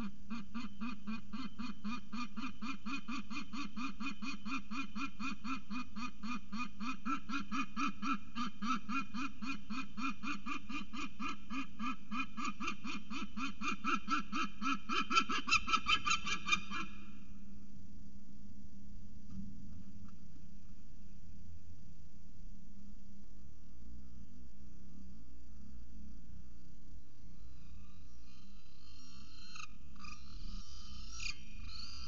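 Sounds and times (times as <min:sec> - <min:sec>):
steady low hum: 0:00.0 - 0:15.4, 0:16.3 - 0:32.0.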